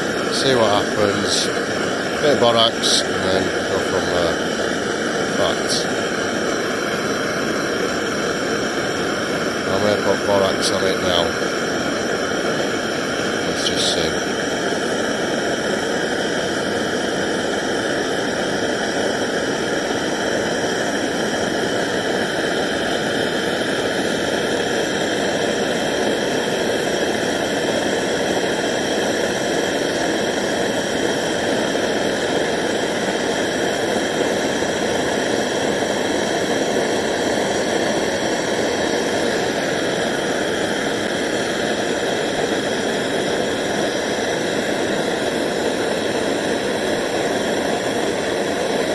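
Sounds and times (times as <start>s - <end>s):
gas blowtorch hissing: 0.0s - 48.9s.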